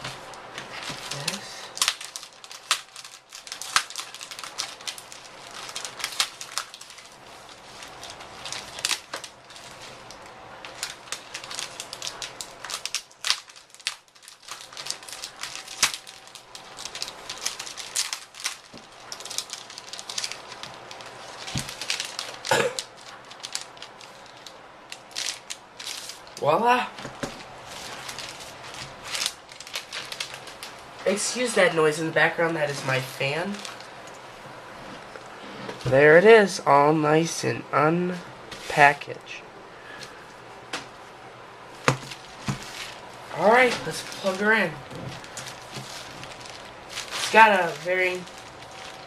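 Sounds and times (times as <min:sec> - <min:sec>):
plastic packaging crinkling: 0:00.0 - 0:26.4, 0:27.0 - 0:34.4, 0:41.7 - 0:49.0
fan running: 0:00.0 - 0:49.0.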